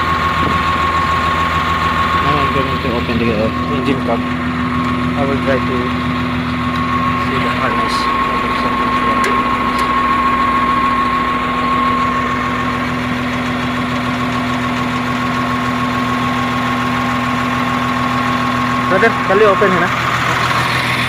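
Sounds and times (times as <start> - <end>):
diesel engine idling with whine: 0.0 - 21.0.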